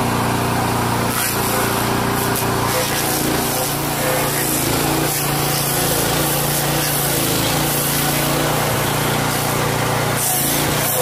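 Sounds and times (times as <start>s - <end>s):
cutting wheel grinding wood: 0.0s - 11.0s
stump grinder engine drone: 0.0s - 11.0s.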